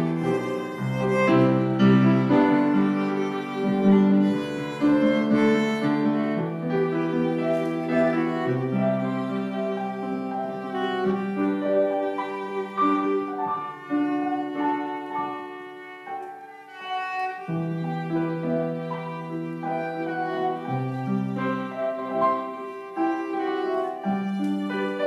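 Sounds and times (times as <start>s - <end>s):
bowed violin melody: 0.0s - 25.0s
low piano notes: 0.0s - 25.0s.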